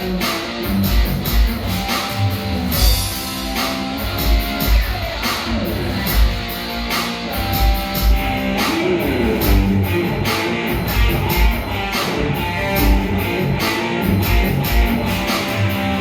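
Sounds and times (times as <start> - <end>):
electric guitar playing: 0.0 - 16.0
steady drum beat: 0.0 - 16.0.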